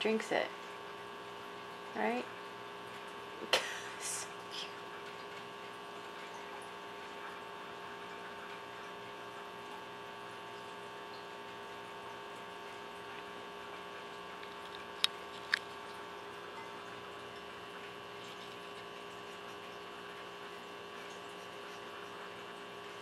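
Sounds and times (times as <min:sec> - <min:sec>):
water pump humming: 0:00.0 - 0:23.0.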